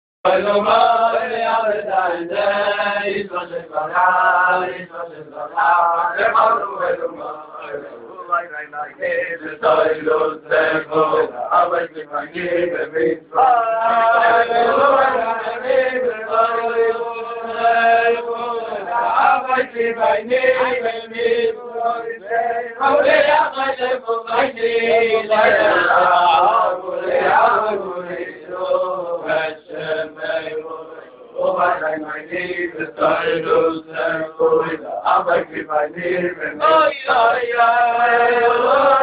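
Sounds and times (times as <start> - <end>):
men singing a chant-like tune: 0.2 - 39.0.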